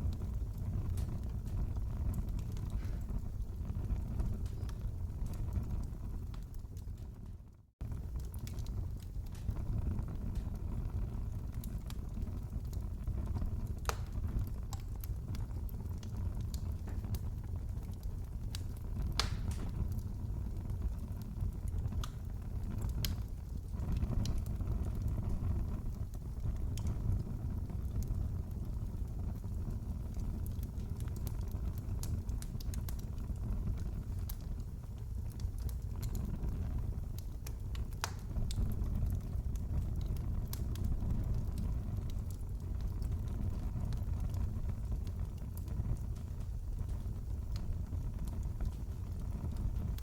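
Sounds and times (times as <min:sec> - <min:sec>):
fire snaps and pops: 0:00.0 - 0:50.0
flames rumbling: 0:00.0 - 0:50.0.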